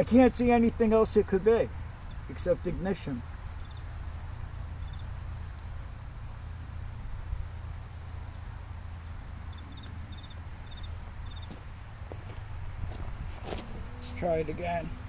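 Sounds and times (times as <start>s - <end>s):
insects chirping: 0.0s - 15.0s
steady low rumble: 0.0s - 15.0s.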